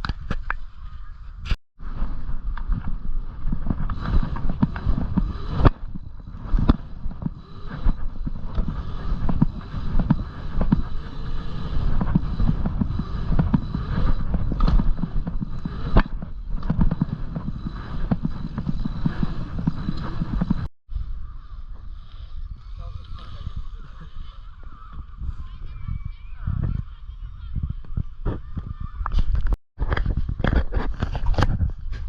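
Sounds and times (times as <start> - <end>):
bike riding rumble: 0.0 - 32.0.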